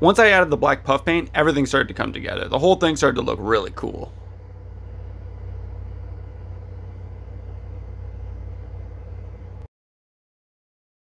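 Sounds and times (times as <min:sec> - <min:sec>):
low rumble and hum: 0:00.0 - 0:09.7.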